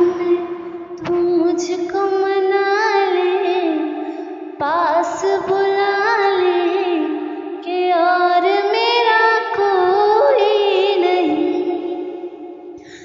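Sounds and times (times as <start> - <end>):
woman singing devotional song: 0.0 - 13.0.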